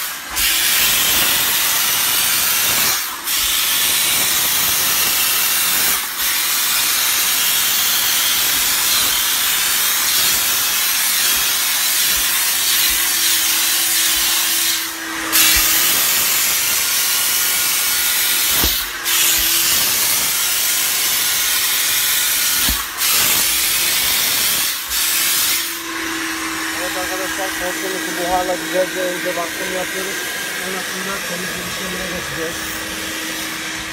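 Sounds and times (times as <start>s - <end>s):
steam gun hissing: 0.0s - 33.9s.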